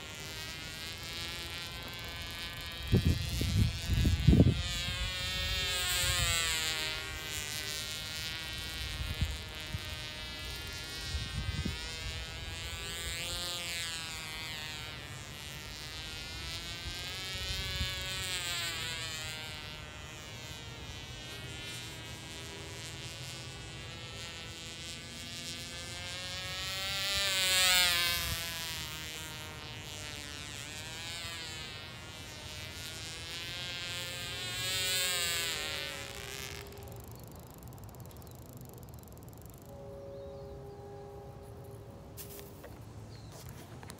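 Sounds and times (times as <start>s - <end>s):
model plane engine buzzing: 0.0s - 43.9s.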